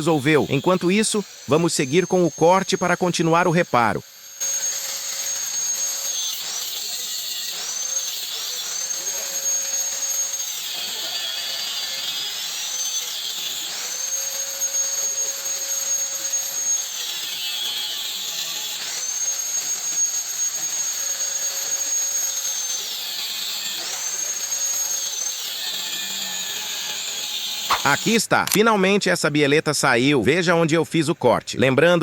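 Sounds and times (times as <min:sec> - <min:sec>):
angle grinder cutting metal: 0:00.0 - 0:28.6.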